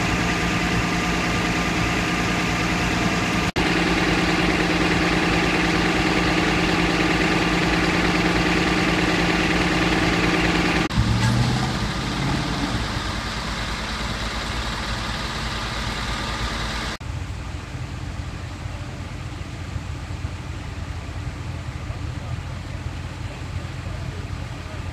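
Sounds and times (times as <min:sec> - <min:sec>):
traffic rumble: 0:00.0 - 0:24.9
vehicle engine idling: 0:00.0 - 0:24.9.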